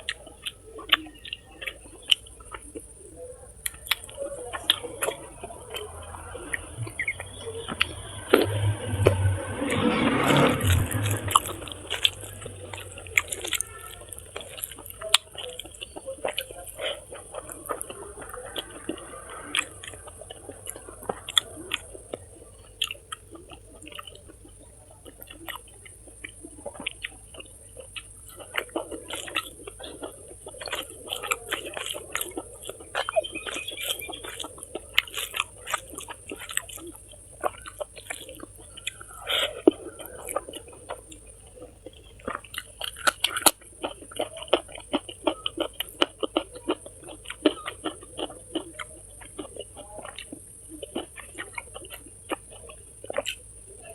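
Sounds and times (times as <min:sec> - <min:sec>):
person chewing crunchy food: 0:00.0 - 0:53.9.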